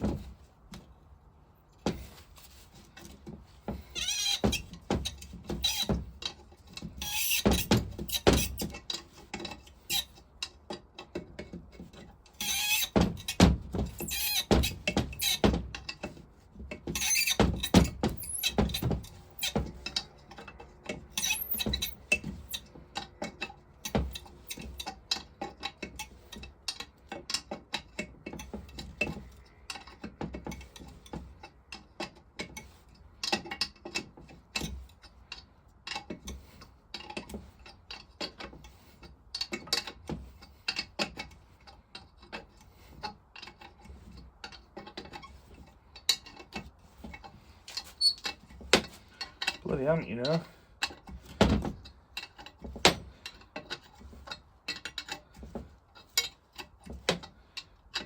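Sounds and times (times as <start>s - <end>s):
spanner clicking and scraping on nut: 3.8s - 49.6s, 50.2s - 58.0s.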